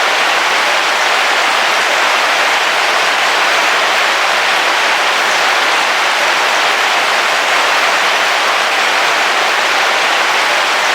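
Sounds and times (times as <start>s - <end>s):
heavy rain on a car roof: 0.0s - 10.9s.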